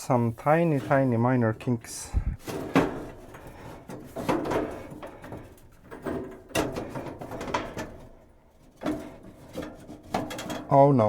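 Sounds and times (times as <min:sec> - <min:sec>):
copper pipe scraping and creaking: 0:00.0 - 0:10.9.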